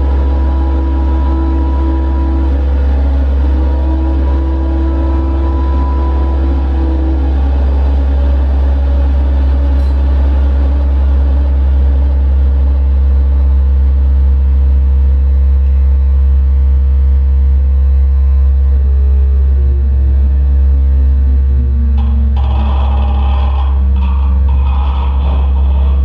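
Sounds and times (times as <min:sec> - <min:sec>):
sustained electronic tones: 0:00.0 - 0:13.0, 0:17.6 - 0:26.0
loud low electronic drone: 0:00.0 - 0:26.0.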